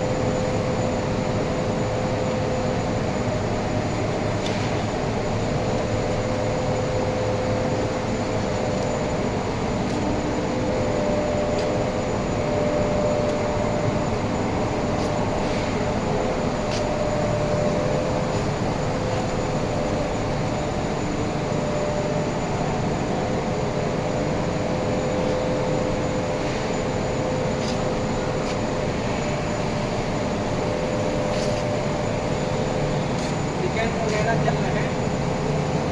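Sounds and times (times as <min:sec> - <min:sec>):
workshop machinery humming: 0:00.0 - 0:35.9.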